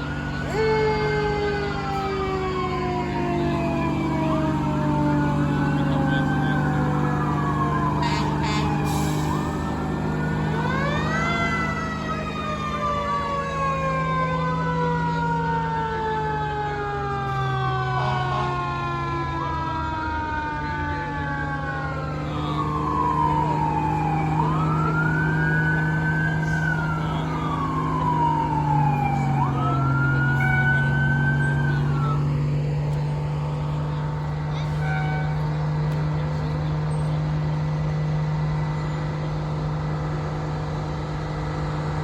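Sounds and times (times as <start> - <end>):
fire truck sirens wailing: 0.0 - 42.0
steady low drone: 0.0 - 42.0.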